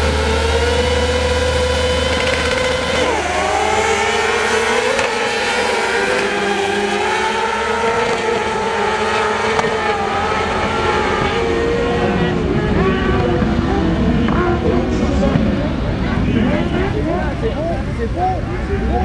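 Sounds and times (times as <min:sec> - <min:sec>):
kart engines at high revs: 0:00.0 - 0:17.7.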